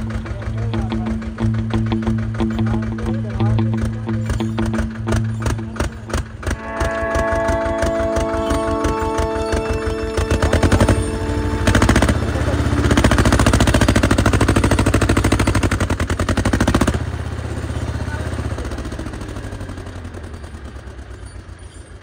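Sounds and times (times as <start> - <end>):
tractor engine knocking under load: 0.0 - 21.3.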